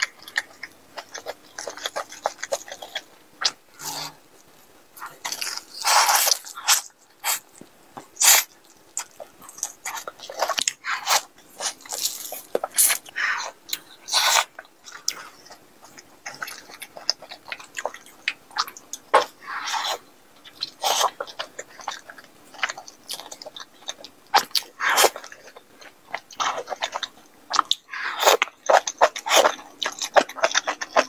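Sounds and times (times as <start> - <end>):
wet chewing and lip smacking: 0.0 - 3.6, 4.4 - 31.0.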